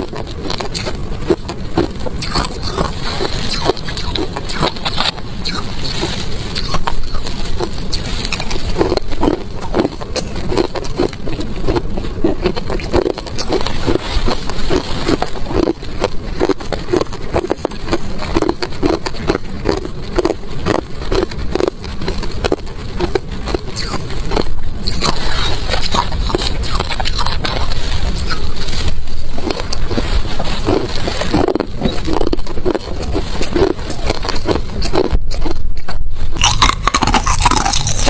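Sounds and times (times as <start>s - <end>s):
crunching ice being chewed: 0.0s - 38.0s.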